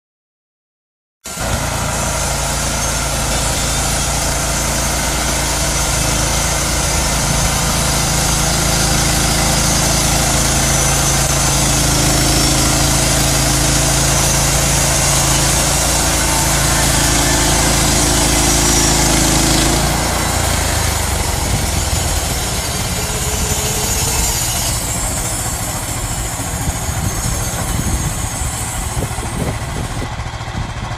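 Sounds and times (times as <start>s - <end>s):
sawmill engine drone: 1.3s - 30.9s.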